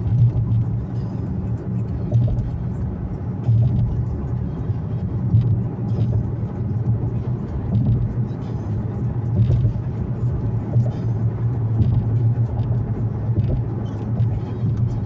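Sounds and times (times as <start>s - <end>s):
car engine and road noise: 0.0s - 15.0s
music playing: 0.0s - 15.0s.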